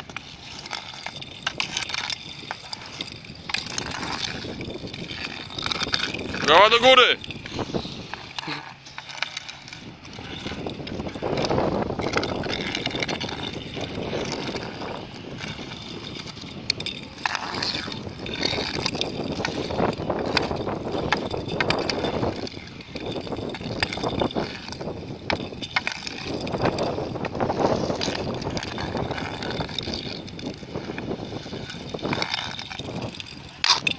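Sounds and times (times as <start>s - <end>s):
hockey stick striking puck: 0.0s - 33.9s
inline skate wheels on asphalt: 0.0s - 33.9s.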